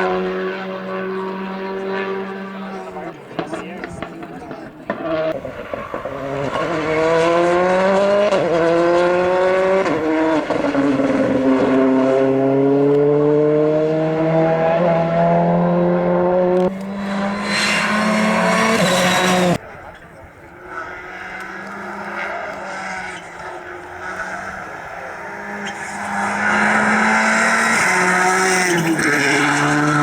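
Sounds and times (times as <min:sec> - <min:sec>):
rally car engine accelerating: 0:00.0 - 0:30.0
tyre and road noise: 0:00.0 - 0:30.0.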